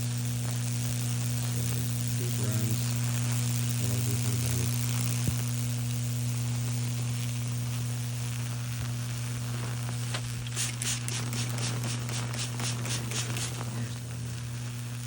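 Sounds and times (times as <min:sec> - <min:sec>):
high-voltage rig humming: 0:00.0 - 0:15.0
sharp sizzling crackles: 0:00.0 - 0:15.0.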